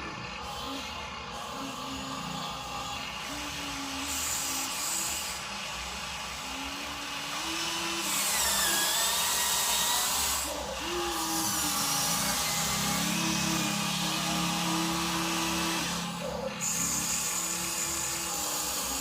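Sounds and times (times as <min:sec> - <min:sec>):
toy truck electric motors whining: 0:00.0 - 0:19.0.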